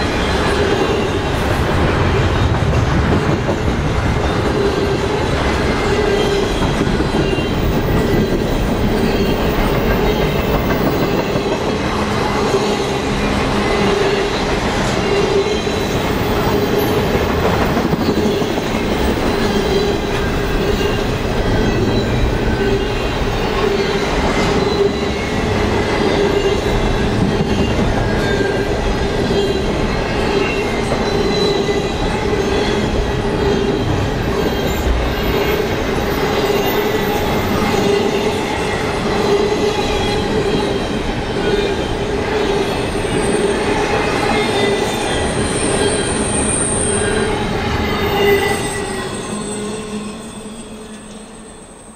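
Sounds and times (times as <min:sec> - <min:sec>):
train wheels rumbling on rails: 0:00.0 - 0:51.8.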